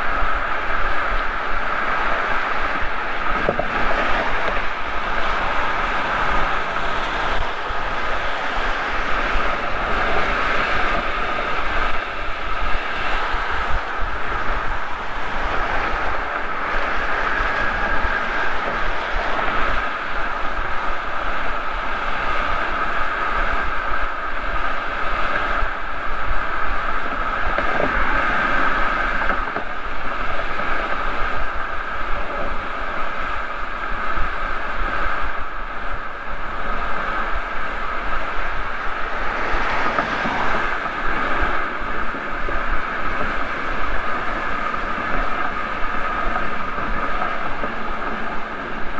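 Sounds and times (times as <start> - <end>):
wind rush: 0.0 - 48.9.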